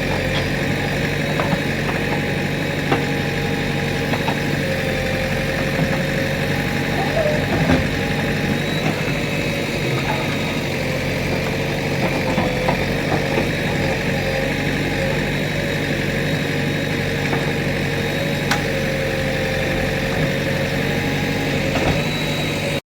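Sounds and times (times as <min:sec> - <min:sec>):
diesel engine running: 0:00.0 - 0:22.8.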